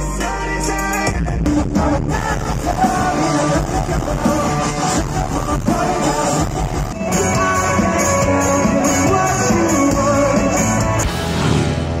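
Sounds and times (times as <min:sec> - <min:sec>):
person singing: 0:00.0 - 0:11.4
live rock band playing: 0:00.0 - 0:12.0.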